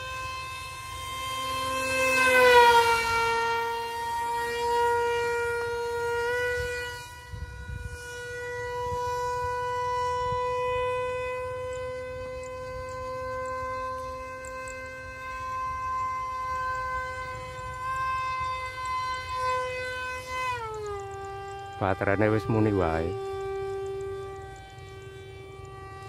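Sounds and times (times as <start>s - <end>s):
model jet fan motor whining: 0.0s - 26.0s
wind rumble on microphone: 4.2s - 26.0s.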